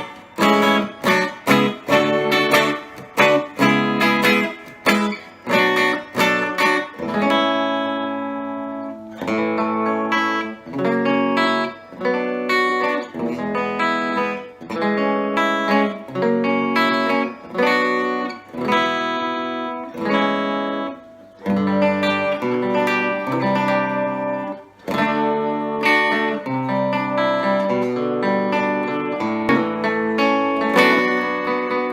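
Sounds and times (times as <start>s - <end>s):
clean electric guitar chords: 0.0s - 31.9s.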